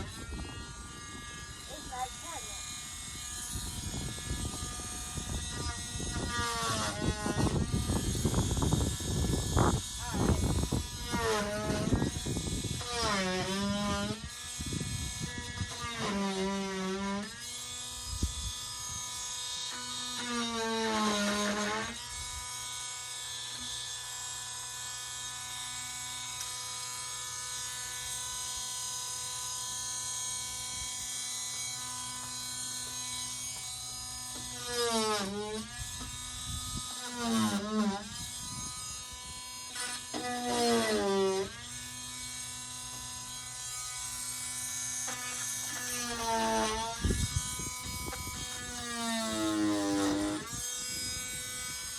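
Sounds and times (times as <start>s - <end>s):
electric power tool whining: 0.0s - 51.9s.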